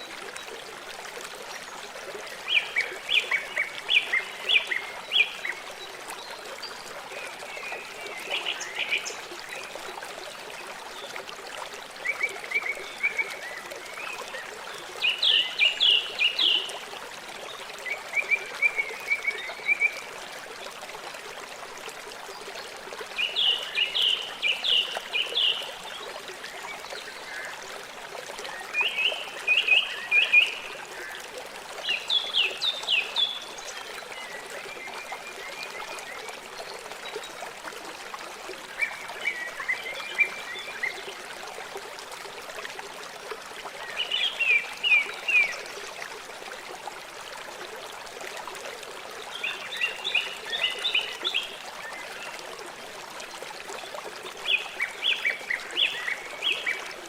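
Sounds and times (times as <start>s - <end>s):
river rushing and trickling: 0.0s - 57.0s.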